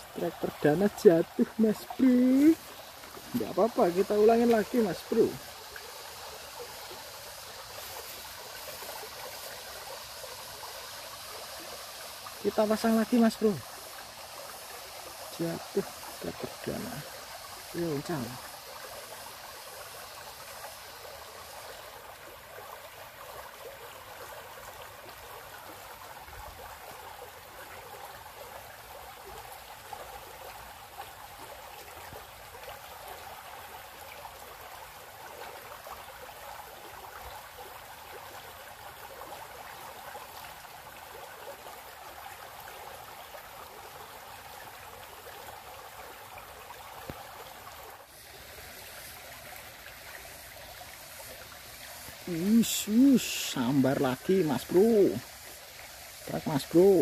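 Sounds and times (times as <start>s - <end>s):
shallow stream rippling: 0.0s - 57.0s.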